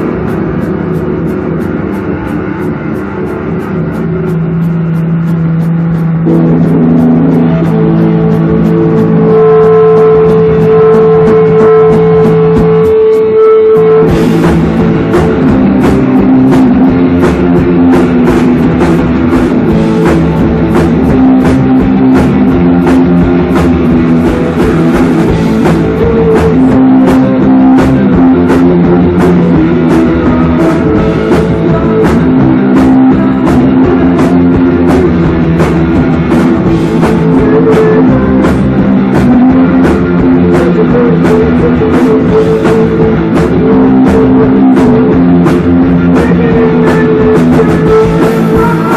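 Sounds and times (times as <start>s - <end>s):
drum kit: 0.0s - 48.9s
electric guitar: 0.0s - 48.9s.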